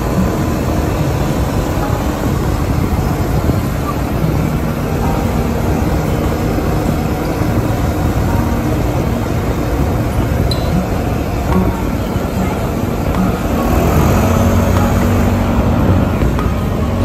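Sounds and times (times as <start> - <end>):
off-road vehicle engine drone: 0.0 - 17.0
tyres rumbling on dirt: 0.0 - 17.0.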